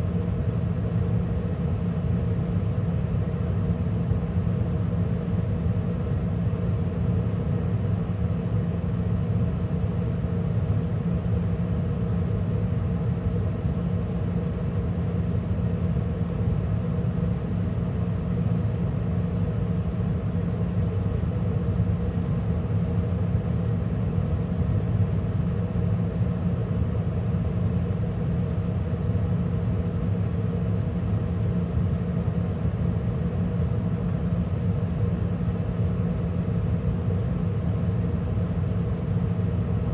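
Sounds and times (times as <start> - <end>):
gas furnace running: 0.0 - 39.9.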